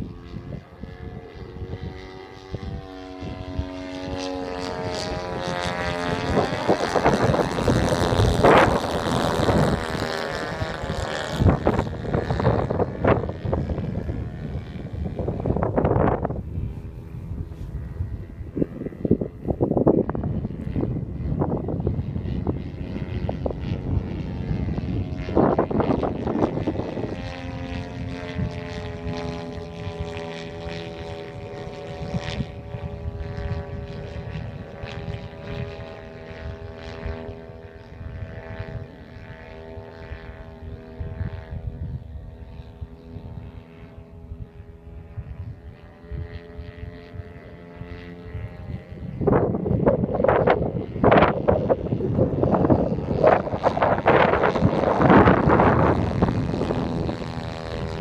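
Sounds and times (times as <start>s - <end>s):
model airplane engine drone: 0.0s - 58.0s
wind buffeting microphone: 0.0s - 58.0s.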